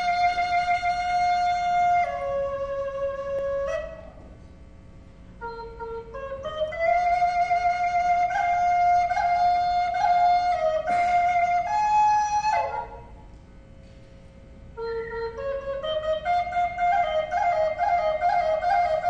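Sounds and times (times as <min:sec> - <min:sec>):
wooden flute melody: 0:00.0 - 0:04.5, 0:05.4 - 0:13.3, 0:14.7 - 0:19.0.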